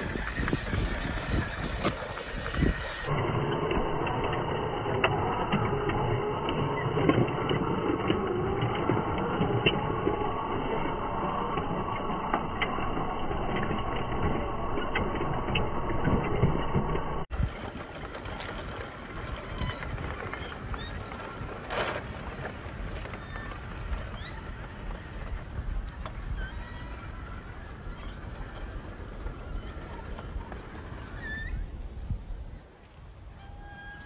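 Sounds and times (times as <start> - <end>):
toy truck electric motors: 0.0 - 31.8.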